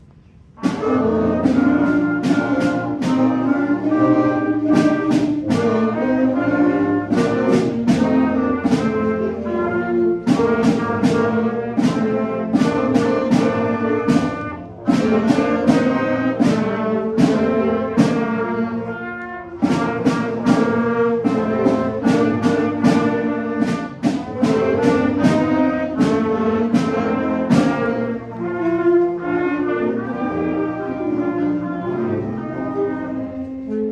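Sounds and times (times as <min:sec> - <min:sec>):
concert band playing: 0:00.5 - 0:33.9.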